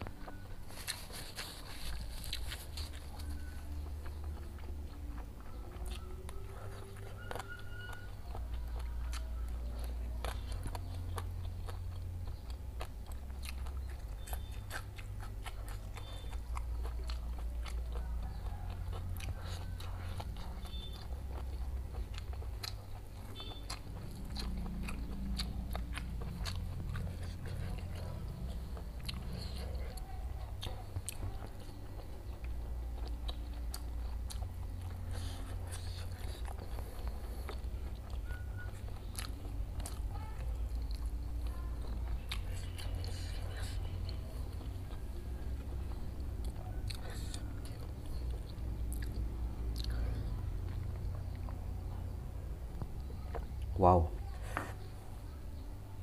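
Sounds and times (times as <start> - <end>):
chewing with crunches: 0.0 - 56.0
steady low hum: 0.0 - 56.0.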